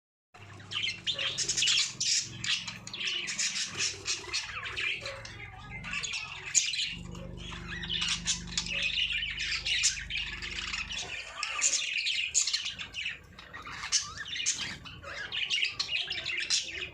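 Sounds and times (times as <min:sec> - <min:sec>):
budgerigars chattering: 0:00.4 - 0:16.9.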